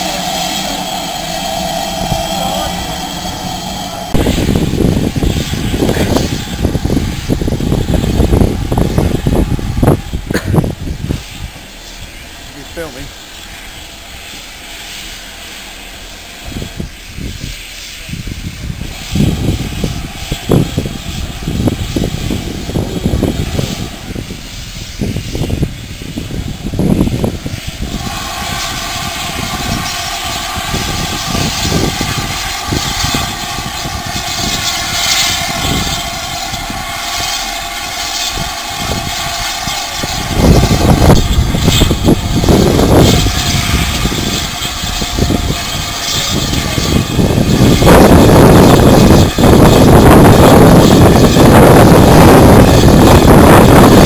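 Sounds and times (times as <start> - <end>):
steady whining tone: 0.0 - 54.0
steam locomotive rumbling and thumps: 0.0 - 54.0.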